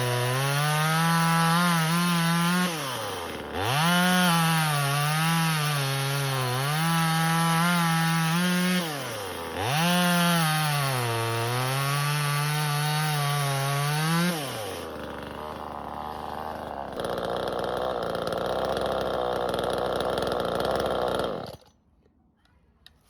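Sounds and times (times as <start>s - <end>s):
chainsaw cutting through log: 0.0s - 21.8s.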